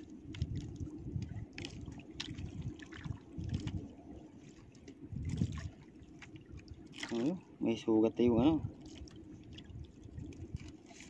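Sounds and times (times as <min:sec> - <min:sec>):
water lapping against boat hull: 0:00.0 - 0:11.0
short ticks and splashes: 0:00.3 - 0:07.4, 0:08.7 - 0:11.0.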